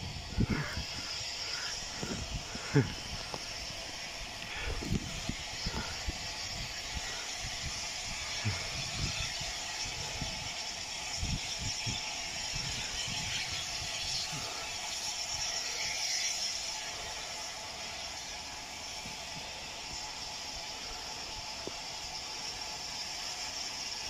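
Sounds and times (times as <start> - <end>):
distant steam locomotive exhaust beats: 0.0 - 24.0
steady steam hiss: 0.0 - 24.0.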